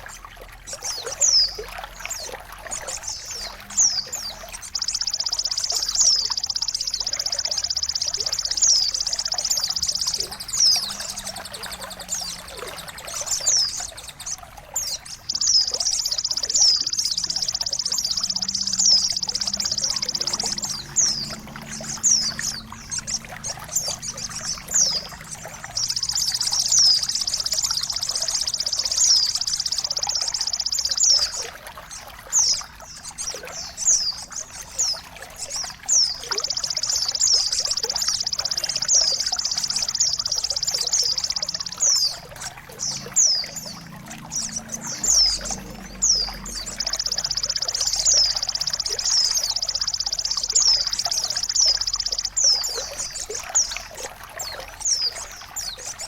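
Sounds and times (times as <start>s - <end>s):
trickle of running water: 0.0s - 56.0s
bird buzzing trills: 0.6s - 56.0s.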